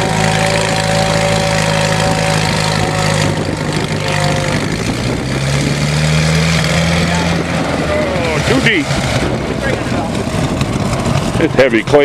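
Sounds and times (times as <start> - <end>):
transmission growl: 0.0 - 11.4
tractor engine running under load: 0.0 - 12.0.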